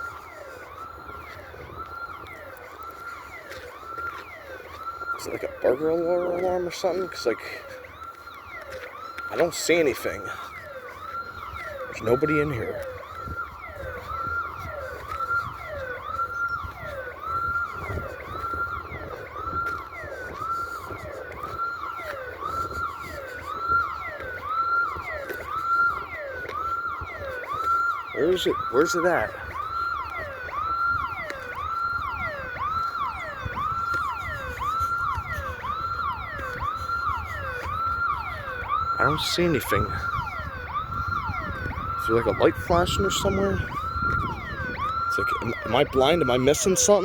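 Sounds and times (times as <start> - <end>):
electronic alarm siren whooping: 0.0 - 47.0.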